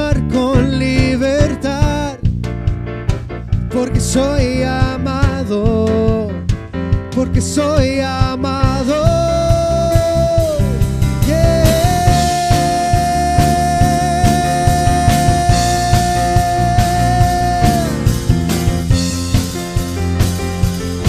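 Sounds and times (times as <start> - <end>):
band playing steady beat: 0.0 - 21.0.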